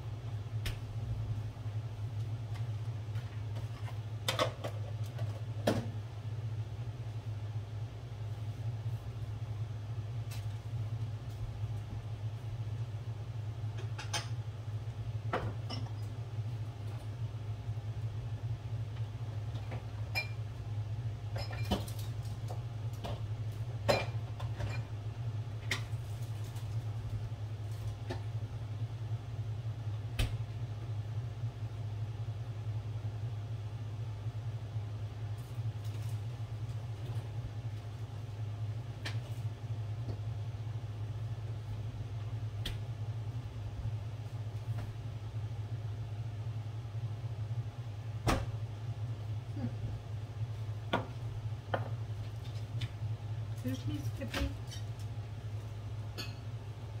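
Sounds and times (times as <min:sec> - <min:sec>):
refrigerator hum: 0:00.0 - 0:57.0.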